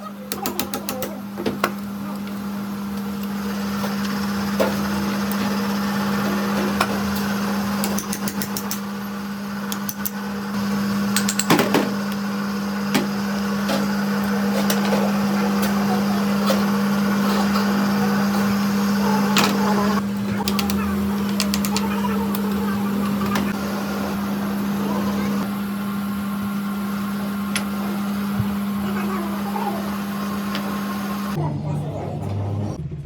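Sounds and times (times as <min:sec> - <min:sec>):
steady mechanical hum: 0:00.0 - 0:33.0.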